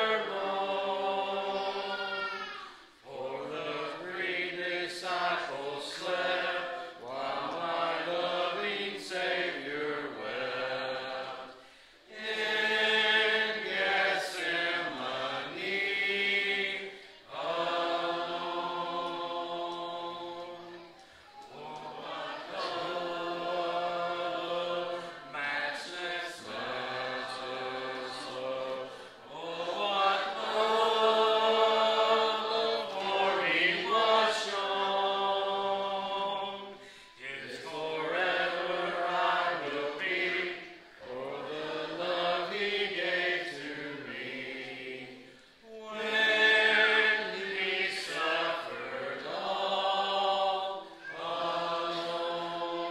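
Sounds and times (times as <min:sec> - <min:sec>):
congregation singing a hymn: 0:00.0 - 0:52.9.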